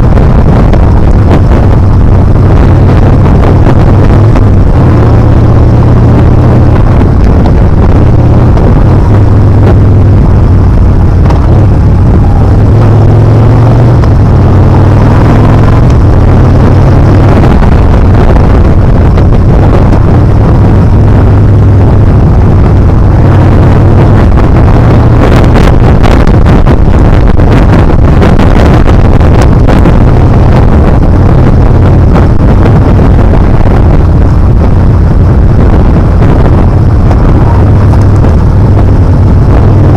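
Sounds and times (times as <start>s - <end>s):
crackling wind buffets: 0.0s - 39.9s
motorcycle engine running: 0.0s - 39.9s
wind rushing over microphone: 0.0s - 39.9s.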